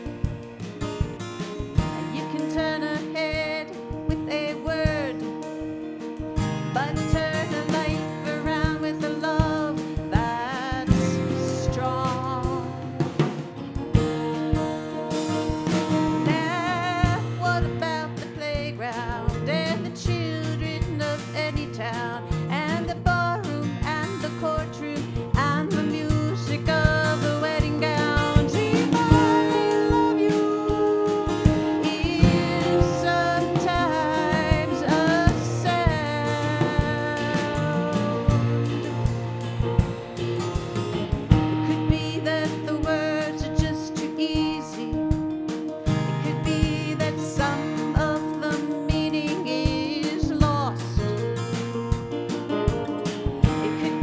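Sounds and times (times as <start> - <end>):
acoustic guitars strummed: 0.0 - 54.0
drums steady beat: 0.0 - 54.0
woman singing: 1.7 - 13.2, 15.8 - 40.0, 41.3 - 51.3, 53.3 - 54.0.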